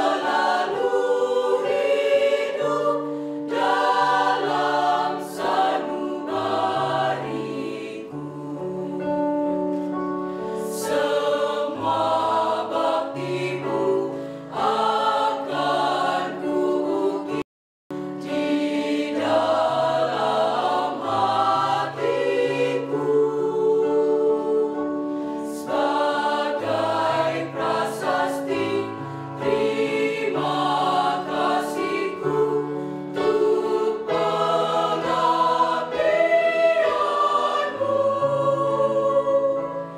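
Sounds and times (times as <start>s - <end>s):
mixed choir singing: 0.0s - 9.6s, 10.6s - 17.4s, 18.2s - 39.9s.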